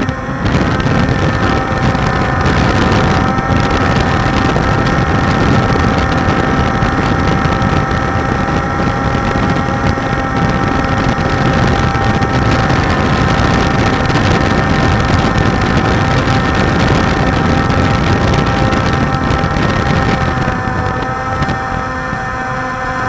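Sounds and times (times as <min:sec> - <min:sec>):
quadcopter motors whining: 0:00.0 - 0:23.0
wind buffeting microphone: 0:00.0 - 0:23.0.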